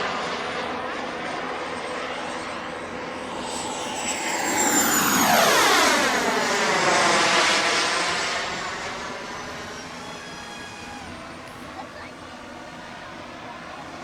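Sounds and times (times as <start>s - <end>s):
model jet turbine whine: 0.0s - 14.0s.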